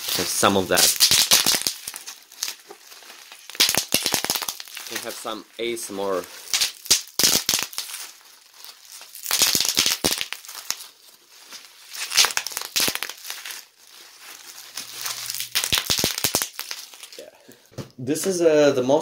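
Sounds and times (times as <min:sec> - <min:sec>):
bubble wrap crinkling and popping: 0:00.0 - 0:17.8.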